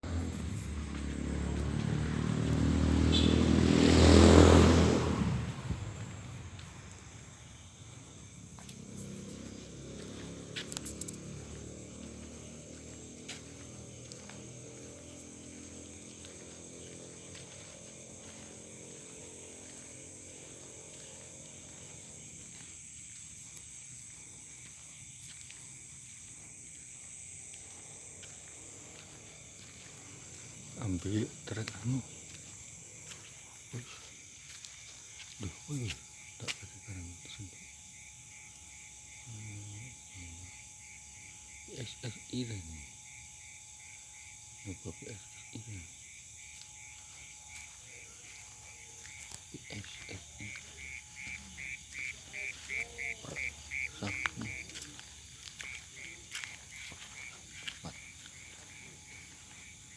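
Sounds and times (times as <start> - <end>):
vehicle passing by: 0.0 - 23.0, 26.3 - 43.2, 44.7 - 59.9
crickets chirping: 0.0 - 59.9.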